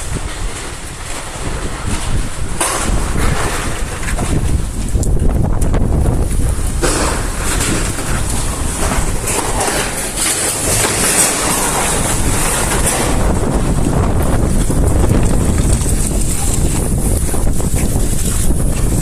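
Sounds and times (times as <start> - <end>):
strong gusty wind on microphone: 0.0 - 19.0.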